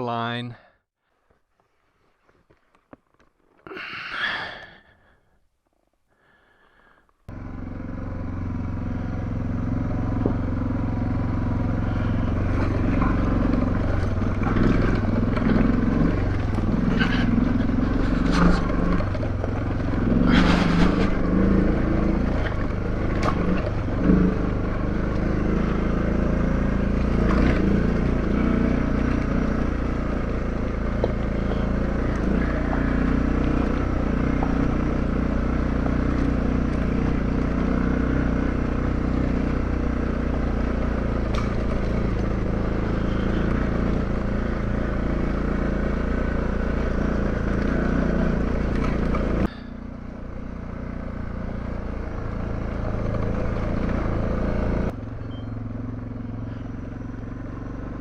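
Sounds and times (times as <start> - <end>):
motorcycle engine running: 7.3 - 58.0.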